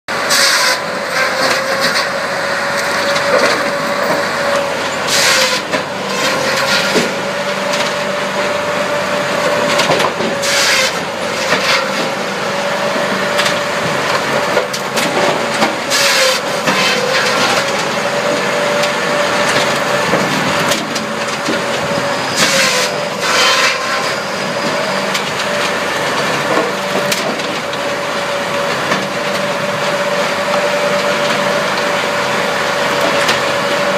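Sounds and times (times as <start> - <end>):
harsh bursts of logs cut and split: 0.1 - 33.9.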